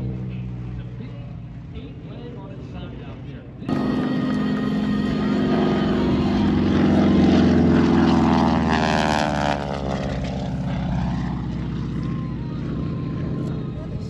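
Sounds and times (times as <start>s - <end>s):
propeller plane flying overhead: 0.0s - 14.0s.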